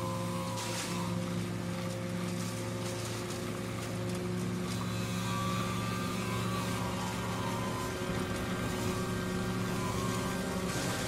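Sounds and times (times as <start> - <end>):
wood chipper engine droning: 0.0 - 11.0.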